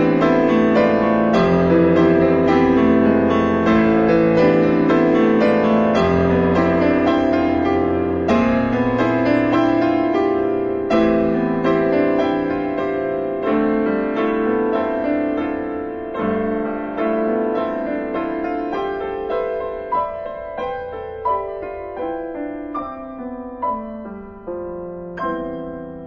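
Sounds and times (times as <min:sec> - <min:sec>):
slow quiet piano piece: 0:00.0 - 0:26.0.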